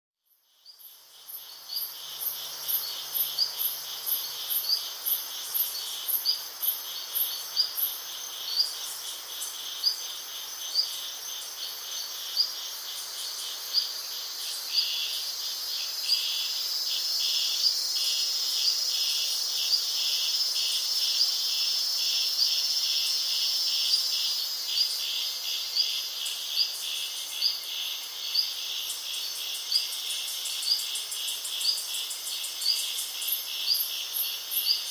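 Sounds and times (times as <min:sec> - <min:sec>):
insects chirping: 0:00.2 - 0:34.9.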